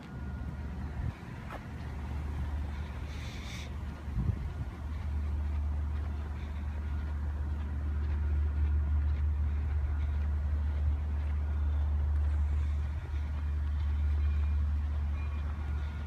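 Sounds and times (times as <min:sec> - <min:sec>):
distant diesel train rumble: 0:00.0 - 0:16.0.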